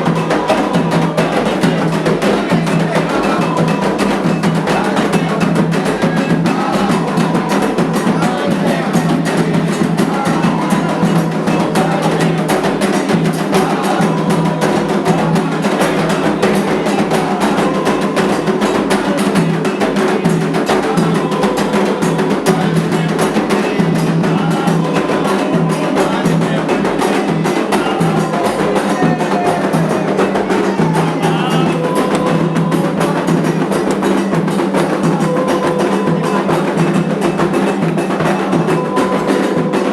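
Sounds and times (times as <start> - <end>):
hand drums: 0.0 - 39.9
metal bell rhythm: 0.0 - 39.9
voices singing: 0.0 - 39.9.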